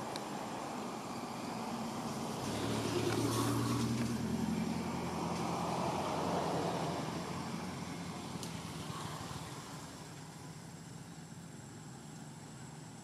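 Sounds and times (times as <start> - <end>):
vehicle engine passing by: 0.0 - 11.1.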